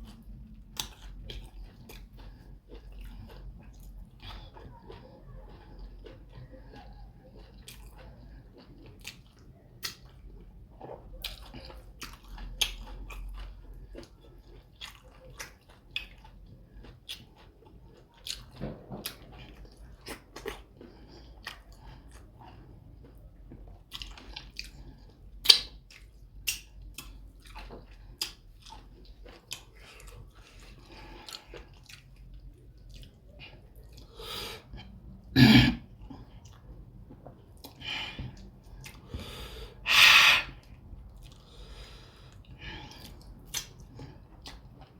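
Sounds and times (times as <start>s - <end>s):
wet chewing and lip-smacking: 0.0s - 39.6s, 40.6s - 44.9s.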